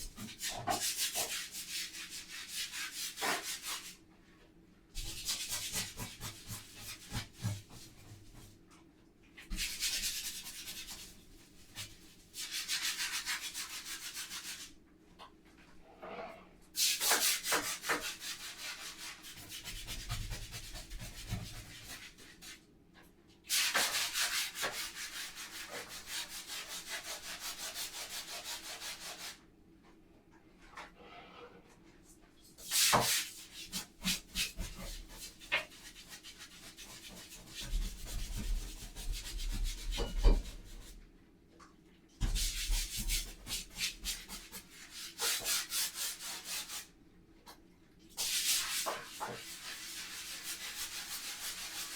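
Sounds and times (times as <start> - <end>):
scrubbing a surface: 0.0 - 4.0, 5.0 - 8.6, 9.4 - 14.8, 16.8 - 22.6, 23.5 - 29.4, 32.5 - 41.0, 42.2 - 47.0, 48.2 - 51.9.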